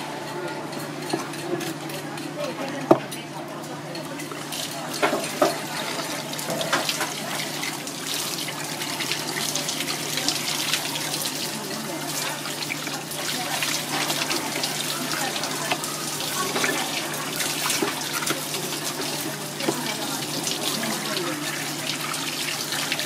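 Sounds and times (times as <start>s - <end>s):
hose water splashing: 4.5s - 23.0s.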